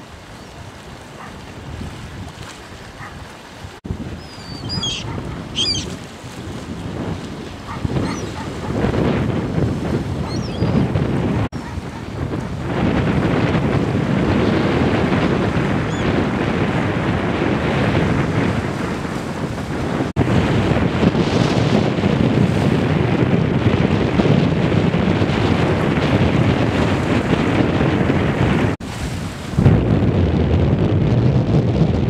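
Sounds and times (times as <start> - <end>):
sea waves: 0.0 - 30.0
wind buffeting microphone: 0.0 - 32.0.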